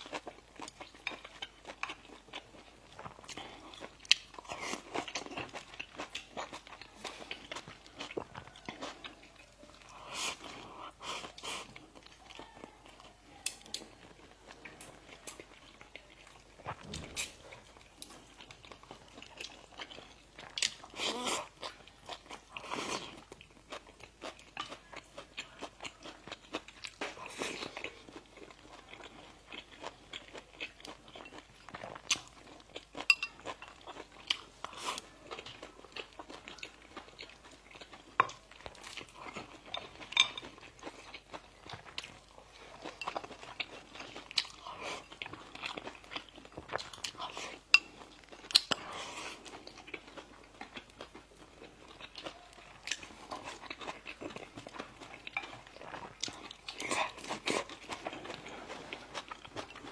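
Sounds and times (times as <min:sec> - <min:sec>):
crunchy chewing of bread: 0:00.0 - 0:59.9.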